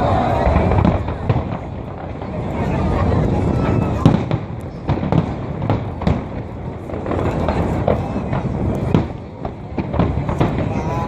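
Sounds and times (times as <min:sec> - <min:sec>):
fireworks bangs: 0:00.0 - 0:11.0
rumble of explosions: 0:00.0 - 0:11.0.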